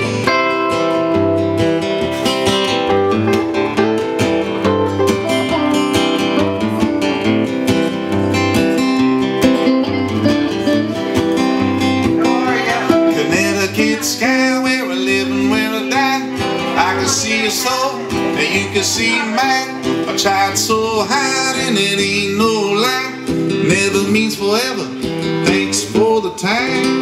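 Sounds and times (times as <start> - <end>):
acoustic guitar strumming chords: 0.0 - 27.0
lead guitar lines: 0.0 - 27.0.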